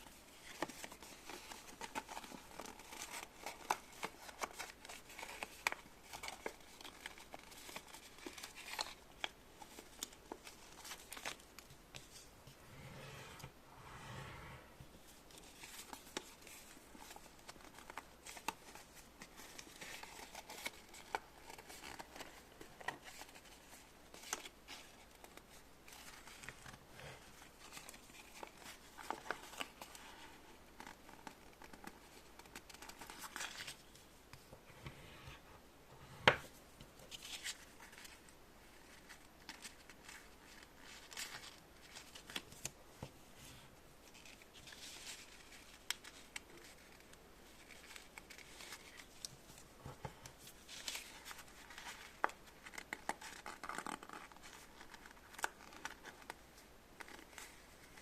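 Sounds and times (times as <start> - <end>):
rustling and crinkling: 0.0 - 13.6, 14.2 - 58.0.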